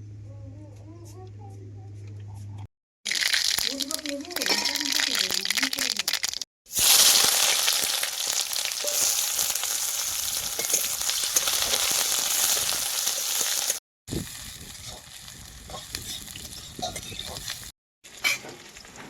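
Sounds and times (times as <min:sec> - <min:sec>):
food sizzling in hot oil: 0:03.1 - 0:19.0.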